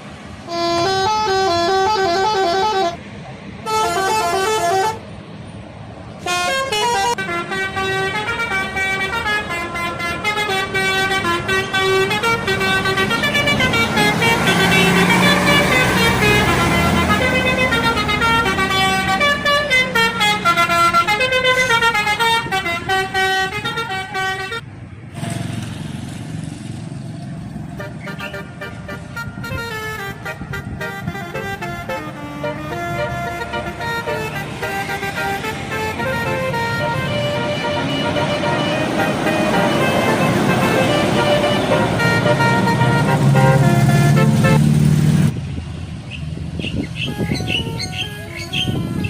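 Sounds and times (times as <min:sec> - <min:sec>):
multi-tone bus horn melody: 0:00.0 - 0:05.2, 0:06.2 - 0:25.6, 0:27.7 - 0:45.3, 0:46.6 - 0:49.0
vehicle rumble: 0:00.0 - 0:49.0.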